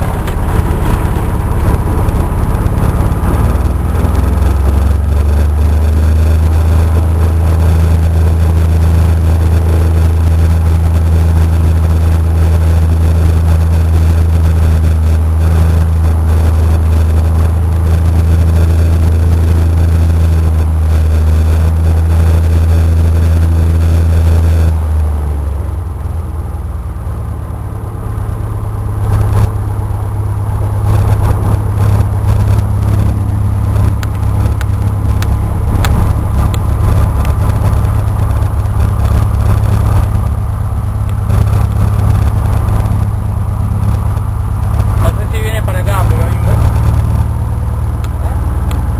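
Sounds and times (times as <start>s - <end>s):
light aircraft engine and propeller: 0.0s - 48.9s.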